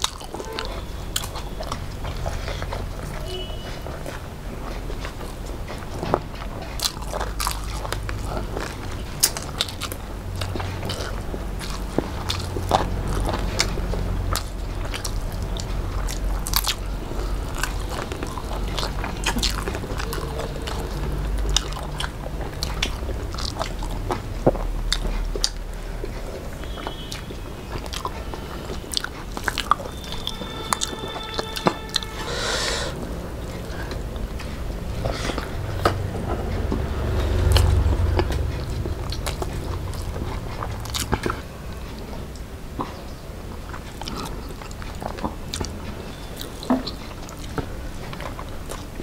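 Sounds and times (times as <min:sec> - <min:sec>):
people chewing with mouth clicks: 0:00.0 - 0:49.0.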